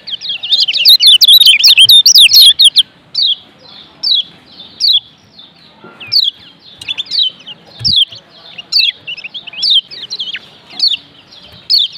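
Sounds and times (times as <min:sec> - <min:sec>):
bird chirping and twittering: 0:00.0 - 0:11.9.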